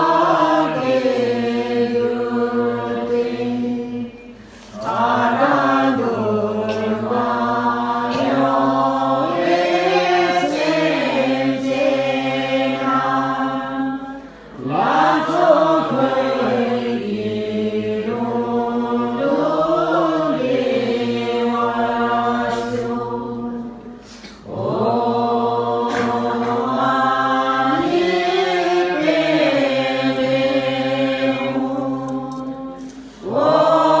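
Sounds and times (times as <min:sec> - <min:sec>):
voices chanting a melodic chant: 0:00.0 - 0:34.0.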